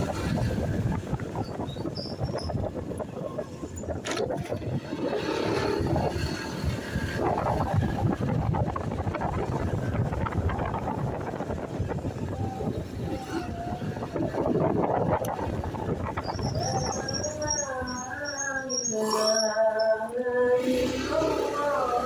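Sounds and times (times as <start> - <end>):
vehicle noise: 0.0 - 22.0
wind on microphone: 0.0 - 22.0.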